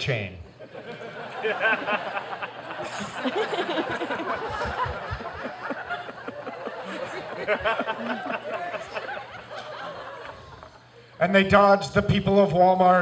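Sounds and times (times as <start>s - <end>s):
audience laughing: 0.5s - 11.2s.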